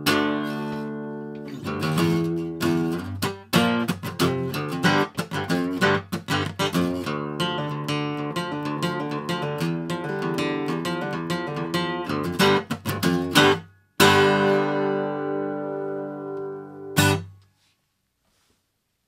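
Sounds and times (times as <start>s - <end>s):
acoustic guitar strumming: 0.0s - 17.4s.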